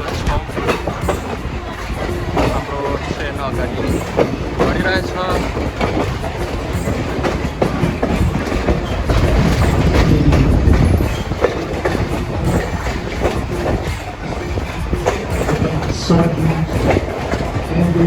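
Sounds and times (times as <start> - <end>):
train rumble: 0.0 - 18.0
wheel-on-rail clicks: 0.0 - 18.0.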